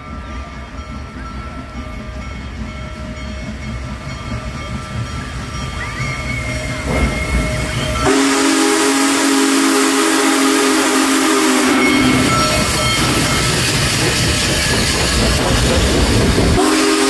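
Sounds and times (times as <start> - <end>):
steam locomotive chime whistle: 0.0 - 15.8, 16.4 - 17.0
train rumble and hiss: 0.0 - 17.0.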